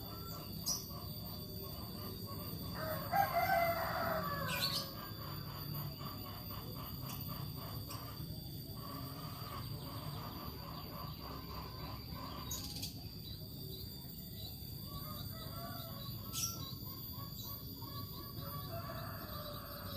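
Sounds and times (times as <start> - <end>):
bird chirping: 0.0 - 19.9.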